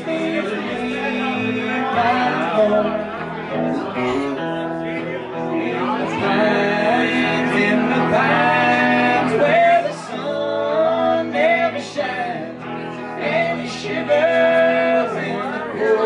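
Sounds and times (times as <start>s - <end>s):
electric guitar: 0.0s - 16.0s
man singing: 0.0s - 16.0s
upright double bass: 0.0s - 16.0s.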